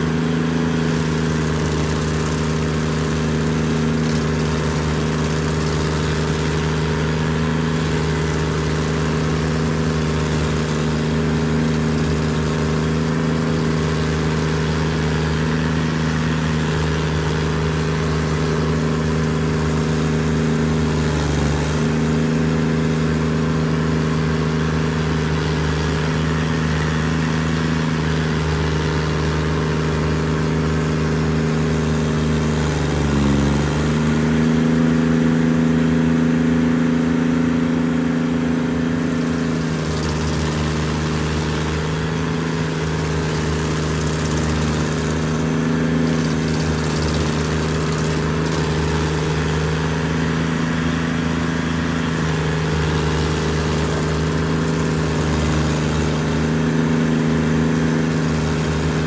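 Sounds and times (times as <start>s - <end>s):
engine hum: 0.0s - 59.0s
stump grinder grinding wood: 0.0s - 59.0s.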